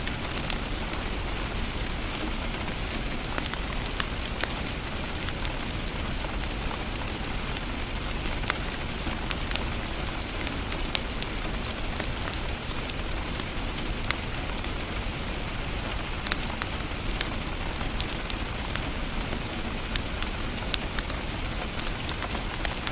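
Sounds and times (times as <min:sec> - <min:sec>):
wood fire crackling and popping: 0:00.0 - 0:22.9.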